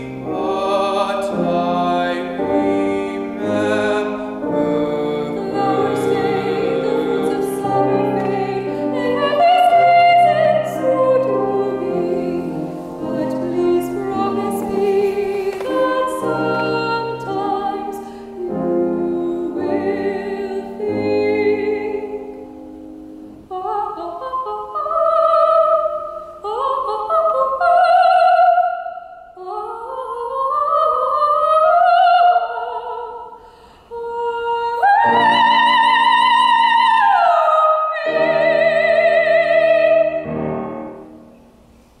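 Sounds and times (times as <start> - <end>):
grand piano accompaniment: 0.0 - 28.8, 34.0 - 42.0
operatic soprano singing: 0.0 - 41.3.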